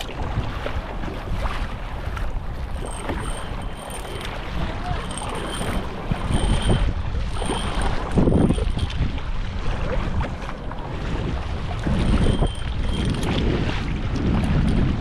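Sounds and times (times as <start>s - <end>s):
sea water splashing and lapping: 0.0s - 15.0s
wind buffeting microphone: 0.0s - 15.0s.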